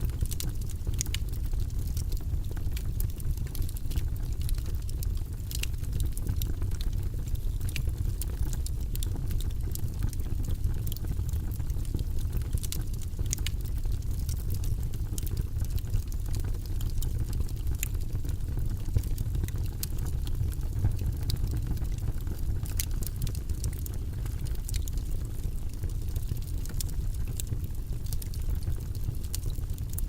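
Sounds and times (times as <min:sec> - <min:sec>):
burning logs crackling and popping: 0:00.0 - 0:30.0
fire rumbling: 0:00.0 - 0:30.0.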